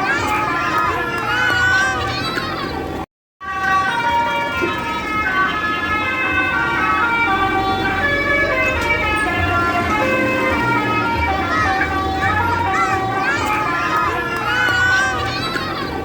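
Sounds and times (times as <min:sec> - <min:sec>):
bus musical horn playing tune: 0:02.8 - 0:16.0.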